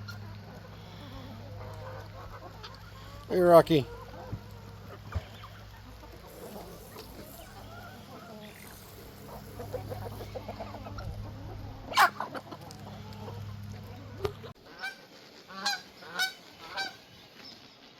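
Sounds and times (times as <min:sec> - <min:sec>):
poultry clucking: 0:00.0 - 0:17.6.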